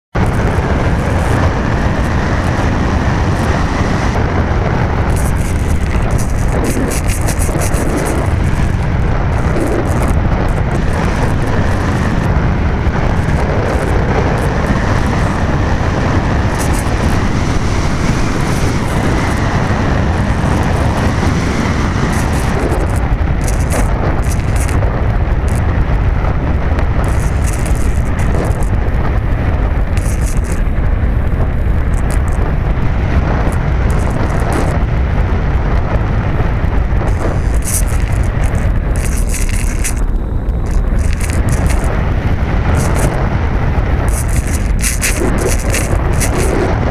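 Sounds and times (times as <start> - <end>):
wind buffeting microphone: 0.1 - 46.9.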